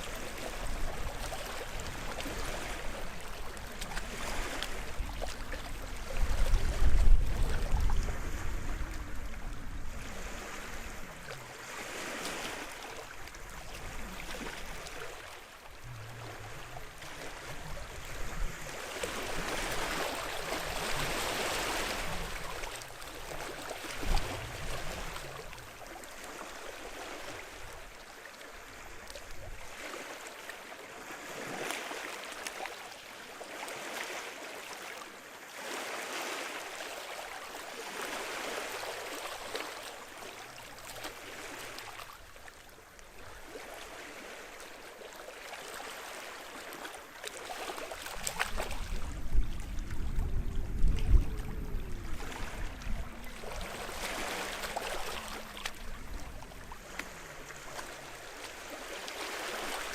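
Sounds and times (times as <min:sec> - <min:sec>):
sea waves washing onto shore: 0:00.0 - 0:59.9.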